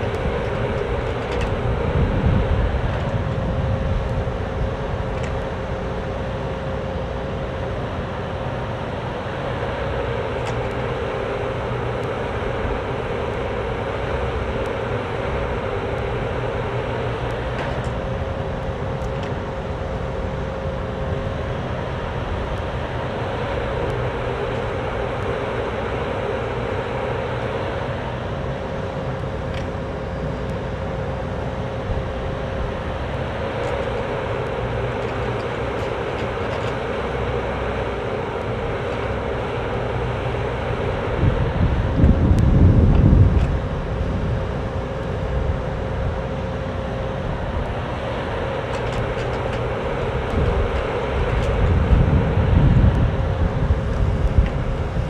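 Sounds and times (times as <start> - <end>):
diesel excavator engine running: 0.0 - 55.0
steady whine: 0.0 - 55.0.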